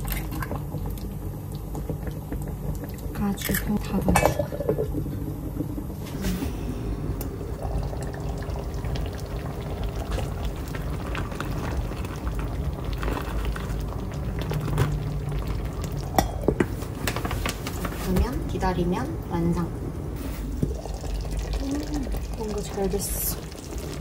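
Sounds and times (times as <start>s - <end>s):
sauce bubbling in pot: 0.0s - 6.1s, 6.7s - 16.6s, 20.5s - 24.0s.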